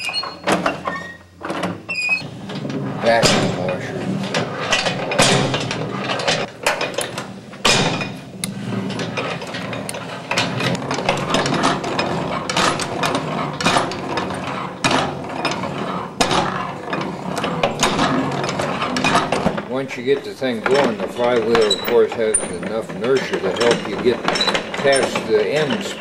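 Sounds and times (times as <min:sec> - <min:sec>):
hand-powered washing machine clattering: 0:00.0 - 0:26.0.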